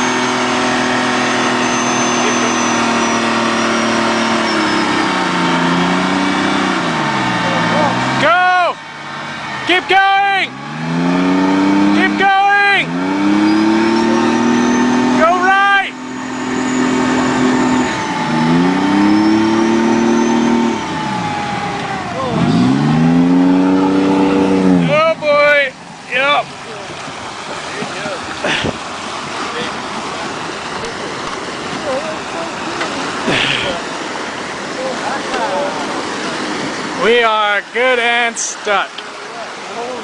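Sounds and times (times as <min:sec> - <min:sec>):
steady whine: 0:00.0 - 0:39.3
diesel engine running: 0:00.0 - 0:40.0.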